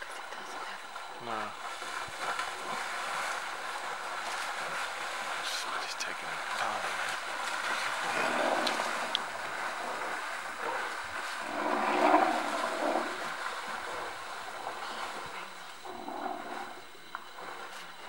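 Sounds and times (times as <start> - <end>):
water and mud splashing: 0.0 - 18.0.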